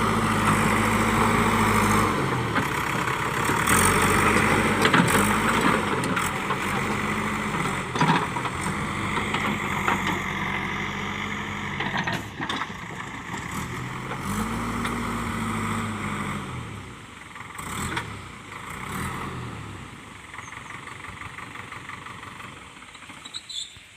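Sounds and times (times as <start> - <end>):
diesel engine revving: 0.0 - 23.6.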